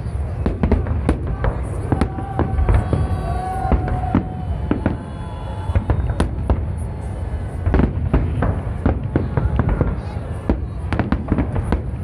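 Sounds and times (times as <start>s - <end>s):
deep booming of fireworks: 0.0s - 12.0s
fireworks bangs: 0.0s - 12.0s.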